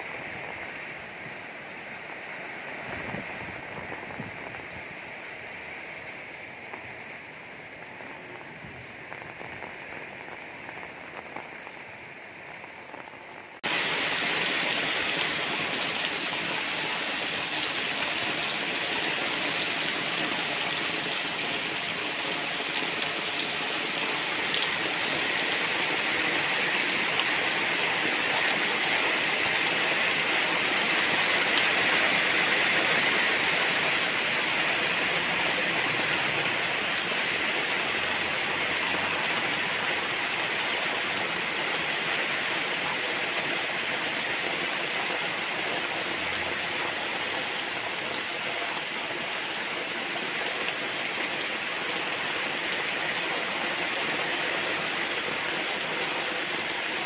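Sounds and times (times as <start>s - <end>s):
heavy rain on roofs and trees: 0.0s - 57.0s.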